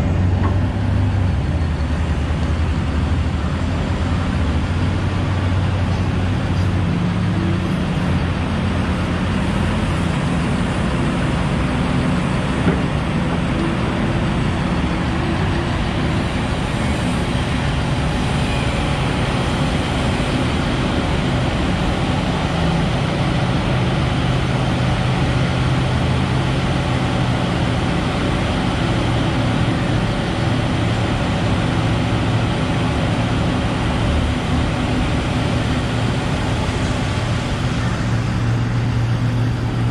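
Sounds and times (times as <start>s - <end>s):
excavator diesel engine under load: 0.0s - 39.9s.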